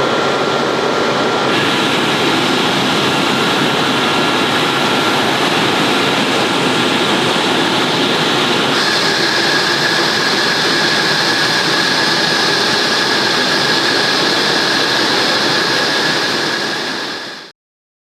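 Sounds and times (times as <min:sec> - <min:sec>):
jet engines roaring with whine: 0:00.0 - 0:17.5.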